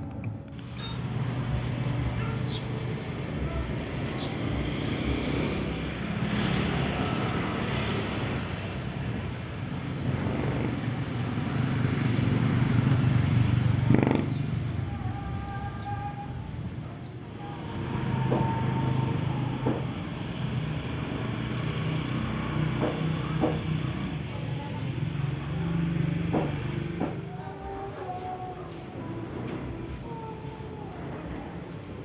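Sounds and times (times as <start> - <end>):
road and wind noise: 0.0 - 27.3
vehicle engine hum: 0.0 - 32.0.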